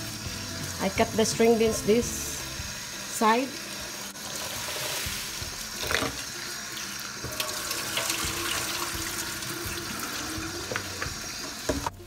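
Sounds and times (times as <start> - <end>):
faucet water splashing over beans: 0.6 - 12.0.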